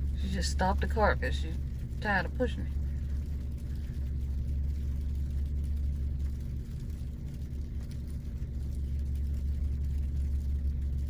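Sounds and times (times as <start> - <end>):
car engine idling: 0.0 - 11.0
faint constant hum: 0.0 - 11.0.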